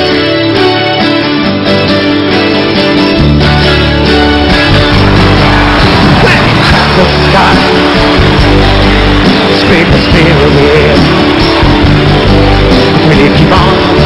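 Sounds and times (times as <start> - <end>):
live folk-rock band playing: 0.0 - 14.0.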